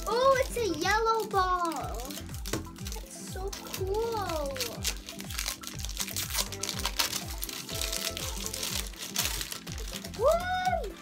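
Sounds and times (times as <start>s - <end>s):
background music with beat: 0.0s - 11.0s
plastic wrapping crinkling: 0.0s - 11.0s.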